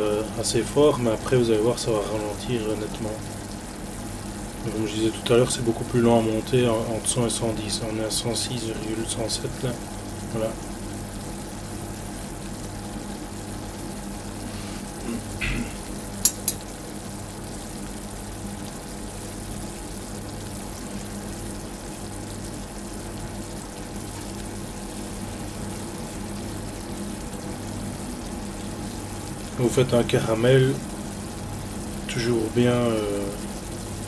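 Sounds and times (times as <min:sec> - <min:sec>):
syrup boiling and crackling: 0:00.0 - 0:34.0.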